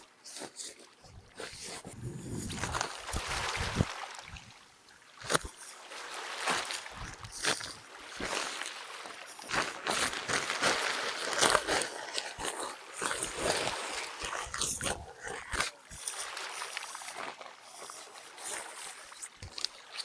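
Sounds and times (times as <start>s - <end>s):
water splashing: 0.8s - 20.0s.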